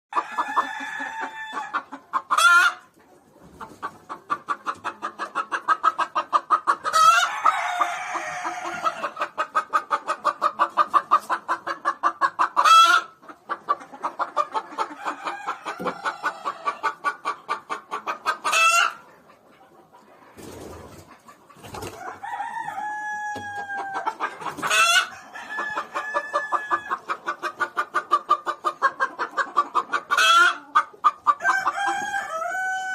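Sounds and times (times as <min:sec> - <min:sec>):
loud sharp chicken calls: 0:00.1 - 0:02.9, 0:03.5 - 0:19.4, 0:20.2 - 0:32.9
chickens clucking: 0:00.1 - 0:32.9.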